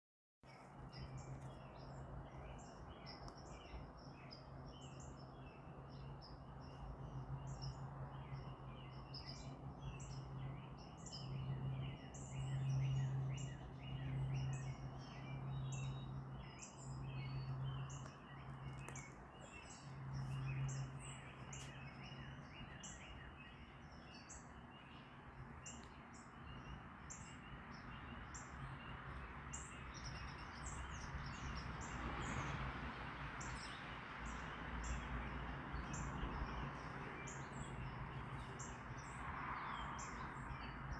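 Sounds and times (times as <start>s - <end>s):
birds chirping: 0.5s - 32.5s, 33.4s - 40.9s.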